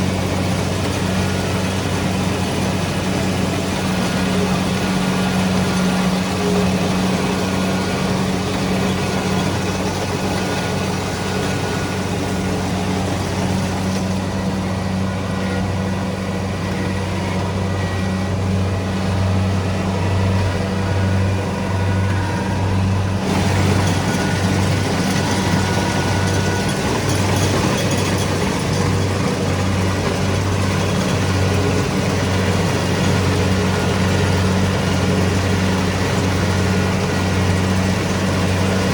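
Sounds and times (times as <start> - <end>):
combine harvester diesel engine drone: 0.0 - 38.9
threshing machinery: 0.0 - 38.9.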